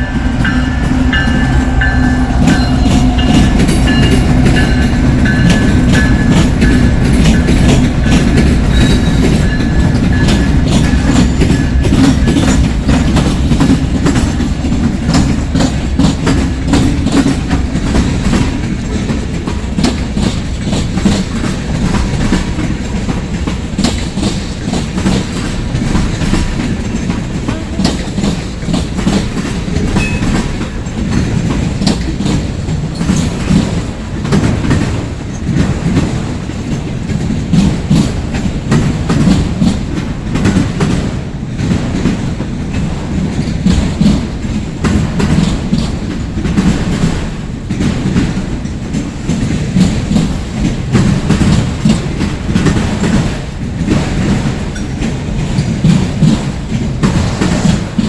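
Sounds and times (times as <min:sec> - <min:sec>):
freight train rumbling past: 0:00.0 - 0:58.0
wheels clicking over rail joints: 0:00.0 - 0:58.0.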